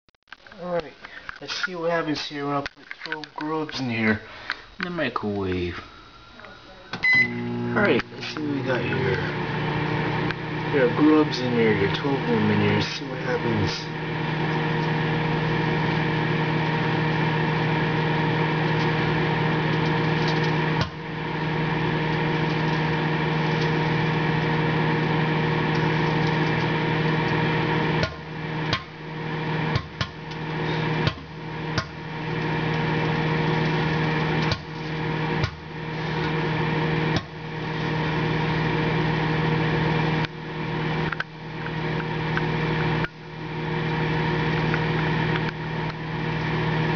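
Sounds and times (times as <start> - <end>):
microwave oven humming: 3.8 - 46.9.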